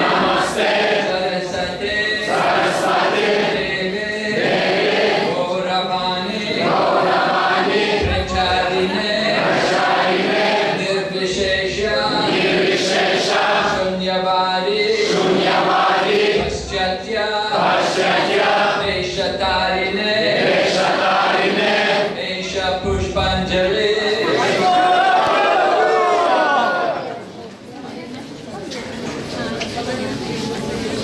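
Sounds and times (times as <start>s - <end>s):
crowd chanting in unison: 0.0s - 27.2s.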